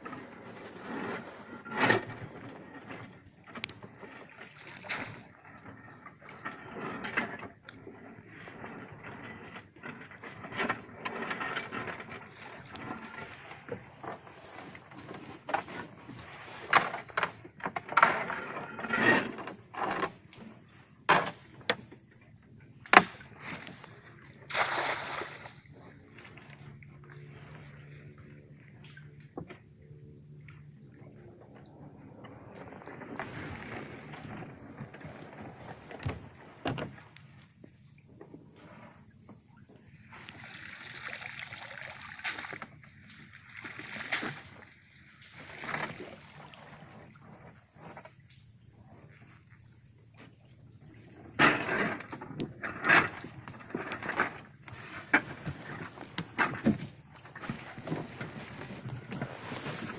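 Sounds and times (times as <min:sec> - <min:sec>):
crickets chirring: 0:00.0 - 0:59.9.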